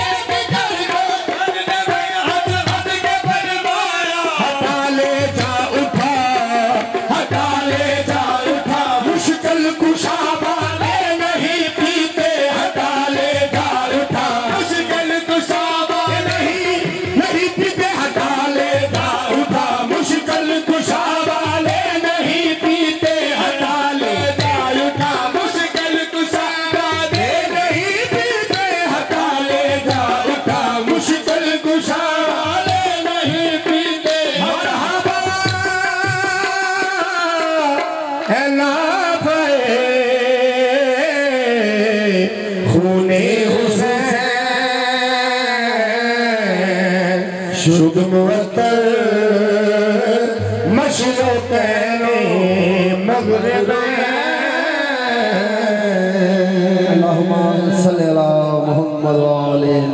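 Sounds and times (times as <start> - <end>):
harmonium: 0.0 - 59.9
man singing: 0.0 - 59.9.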